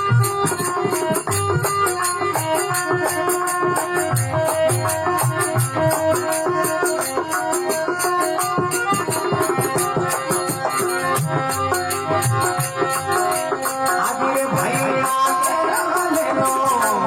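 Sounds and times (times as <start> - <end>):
hand percussion beat: 0.0 - 17.0.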